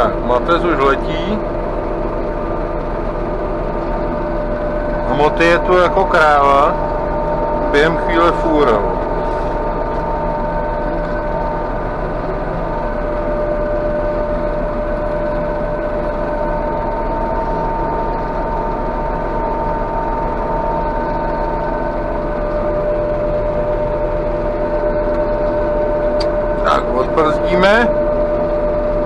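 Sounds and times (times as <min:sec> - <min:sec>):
engine drone: 0:00.0 - 0:29.0
steady high whine: 0:00.0 - 0:29.0.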